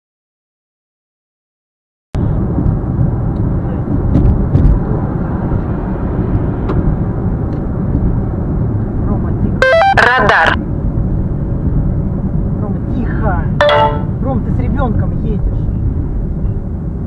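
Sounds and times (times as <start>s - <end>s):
car road and engine rumble: 2.2s - 17.0s.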